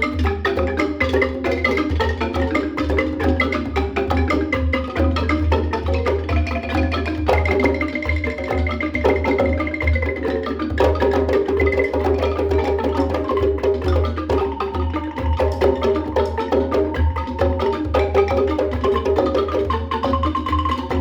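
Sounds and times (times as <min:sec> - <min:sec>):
log xylophone notes: 0:00.0 - 0:21.0.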